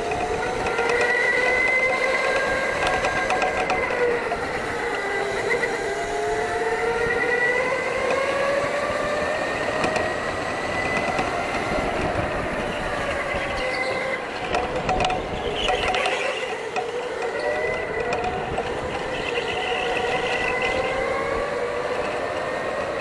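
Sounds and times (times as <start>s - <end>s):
electric go-kart motors whining: 0.0s - 23.0s.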